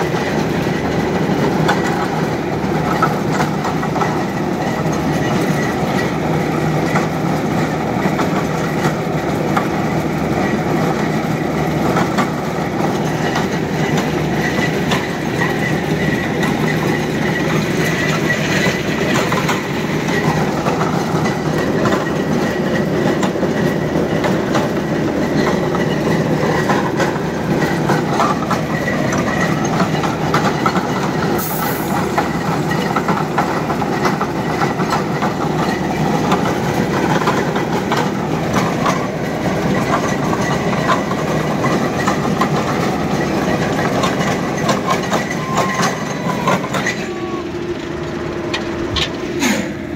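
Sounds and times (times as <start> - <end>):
drilling rig clattering rumble: 0.0 - 49.9.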